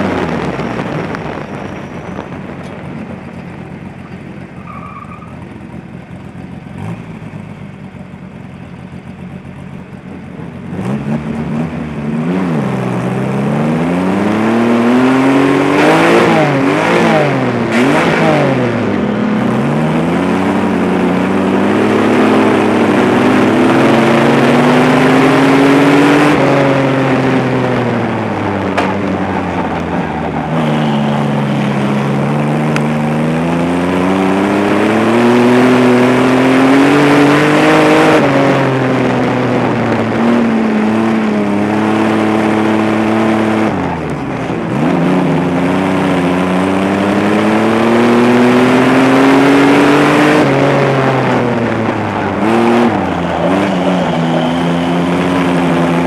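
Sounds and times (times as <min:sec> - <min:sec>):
race car engine revving: 0:00.0 - 0:08.0, 0:08.8 - 0:56.0.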